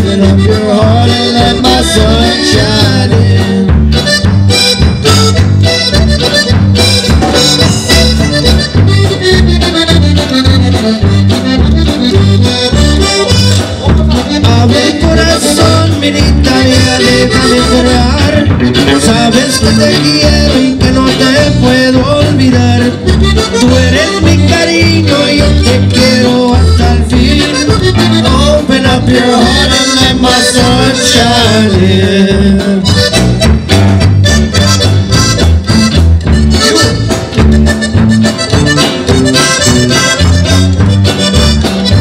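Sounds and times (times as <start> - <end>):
accordion: 0.0 - 42.0
accordion band playing: 0.0 - 42.0
steady bass beat: 0.0 - 42.0.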